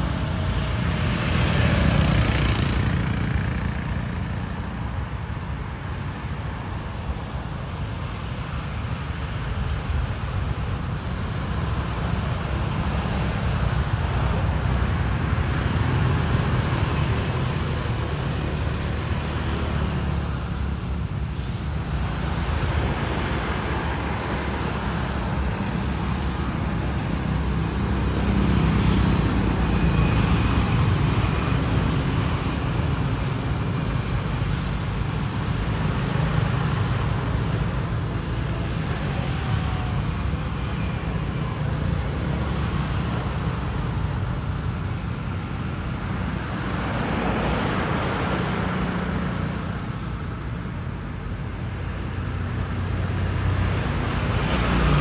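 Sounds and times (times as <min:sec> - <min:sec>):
vehicle passing by: 0:00.0 - 0:04.5, 0:11.6 - 0:50.5, 0:52.3 - 0:55.0
road traffic rumble: 0:00.0 - 0:55.0.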